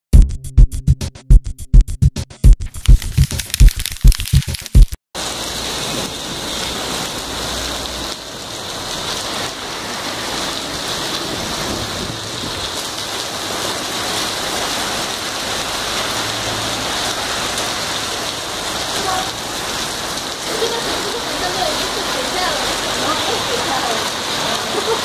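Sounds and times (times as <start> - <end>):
heavy rain on pavement: 3.2 - 25.0.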